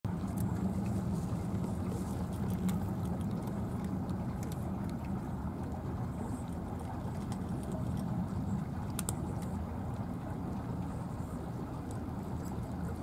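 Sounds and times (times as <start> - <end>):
cats chewing dry food: 0.1 - 13.0
low engine drone: 0.1 - 13.0.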